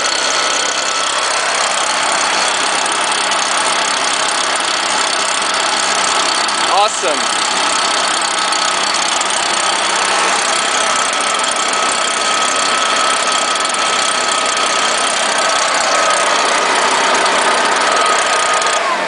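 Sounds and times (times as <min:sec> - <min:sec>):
leaf blower engine running: 0:00.0 - 0:19.0.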